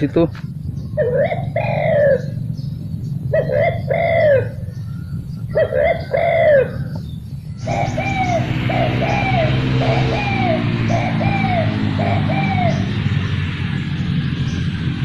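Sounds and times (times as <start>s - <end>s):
dove cooing: 0.7s - 13.3s.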